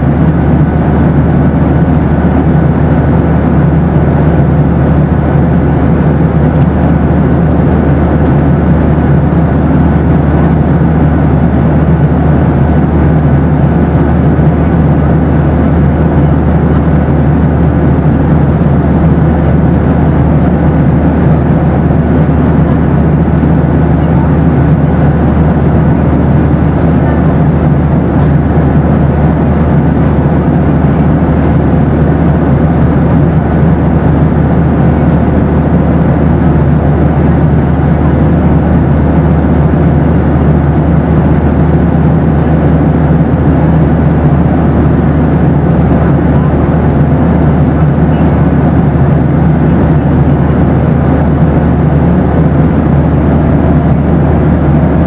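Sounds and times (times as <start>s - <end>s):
jet airliner engine rush: 0.0s - 55.0s.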